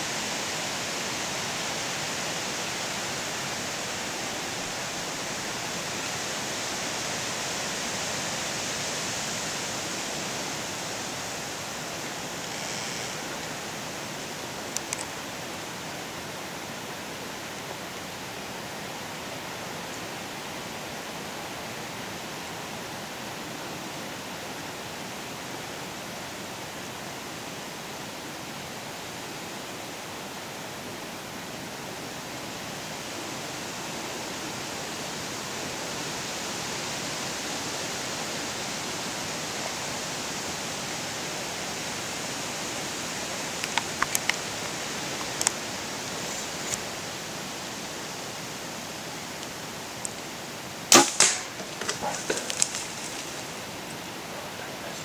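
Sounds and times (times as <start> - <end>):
rushing hiss of outdoor noise: 0.0 - 55.0.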